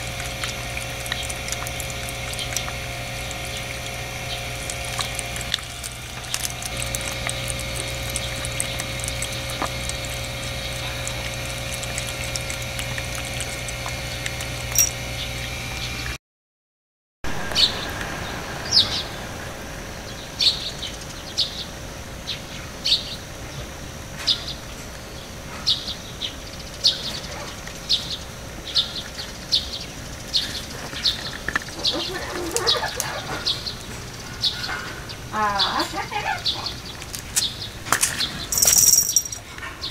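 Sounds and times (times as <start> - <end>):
mechanical hum: 0.0 - 16.2, 17.3 - 39.9.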